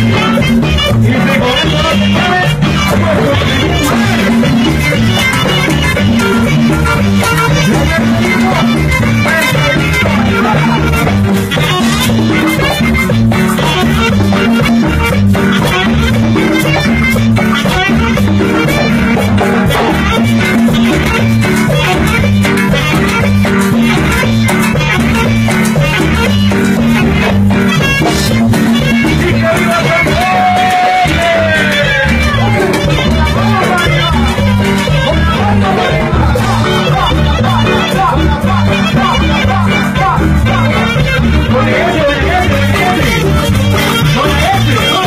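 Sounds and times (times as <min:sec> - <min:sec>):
live band playing dance music: 0:00.0 - 0:45.0.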